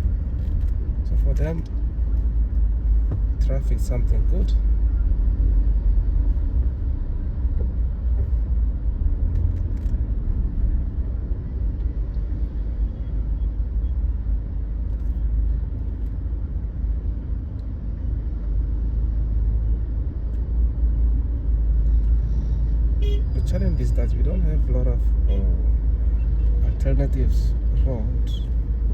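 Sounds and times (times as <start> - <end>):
car engine and road noise: 0.0 - 28.9.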